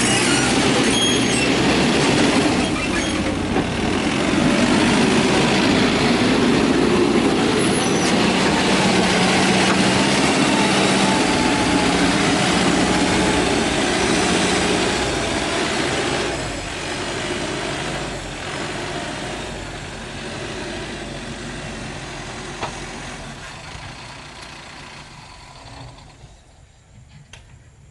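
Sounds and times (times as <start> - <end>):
heavy diesel machinery running: 0.0 - 26.7.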